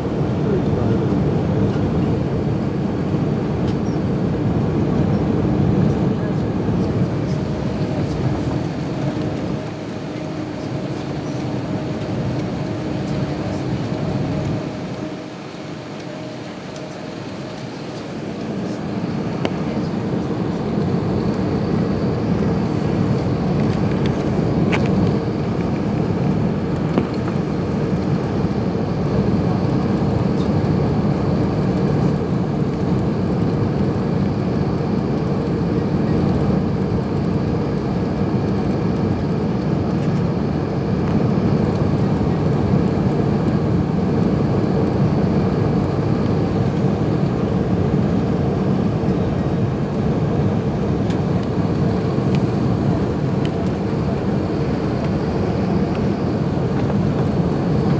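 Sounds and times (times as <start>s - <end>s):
aircraft engines and airflow rush: 0.0s - 57.9s.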